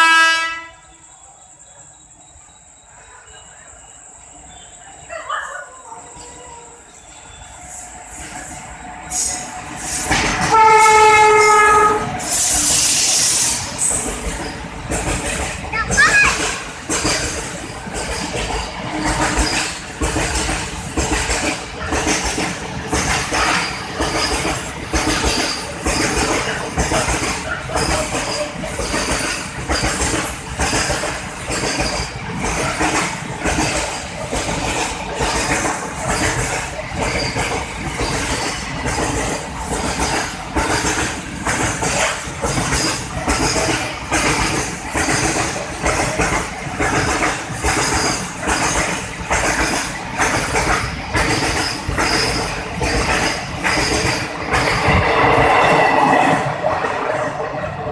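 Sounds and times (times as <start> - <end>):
train wheels clattering over rails: 6.0 - 57.9.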